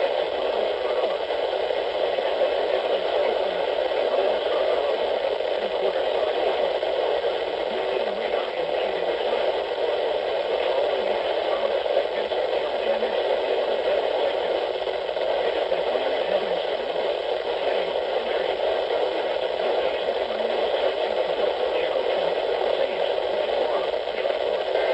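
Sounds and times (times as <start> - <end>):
radio static hiss: 0.0 - 24.9.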